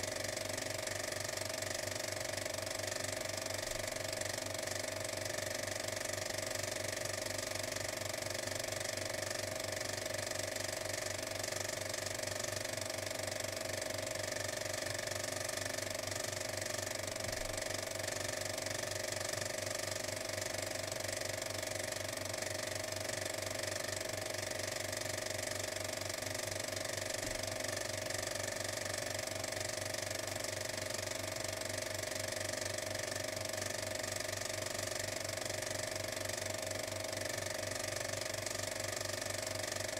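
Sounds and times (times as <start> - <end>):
machine running with fast clatter: 0.0 - 39.9.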